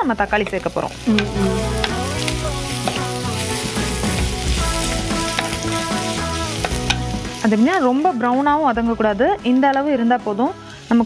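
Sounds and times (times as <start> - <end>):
background music: 0.0 - 11.0
onions sizzling in oil: 0.0 - 11.0.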